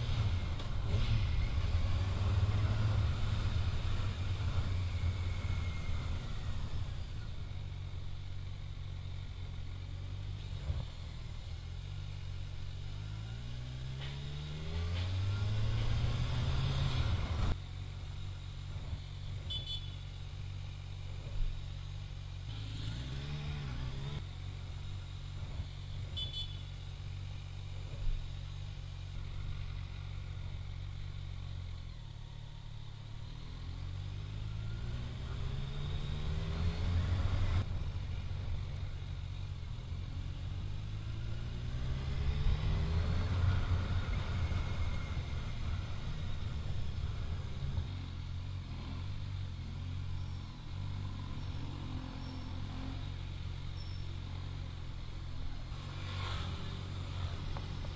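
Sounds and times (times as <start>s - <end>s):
motorcycle engine accelerating: 0.0s - 19.8s, 20.4s - 57.9s.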